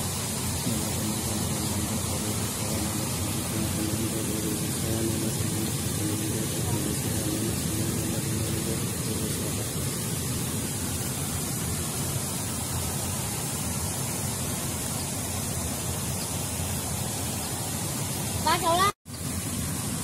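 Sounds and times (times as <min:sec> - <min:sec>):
even hiss: 0:00.0 - 0:20.0
steady fluttering rushing noise: 0:00.0 - 0:20.0.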